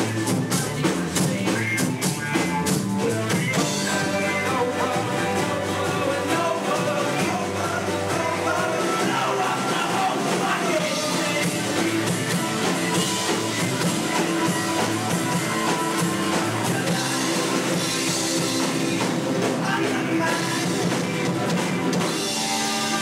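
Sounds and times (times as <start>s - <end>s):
acoustic guitar: 0.0s - 23.0s
bass guitar: 0.0s - 23.0s
drum kit: 0.0s - 23.0s
electric guitar: 0.0s - 23.0s.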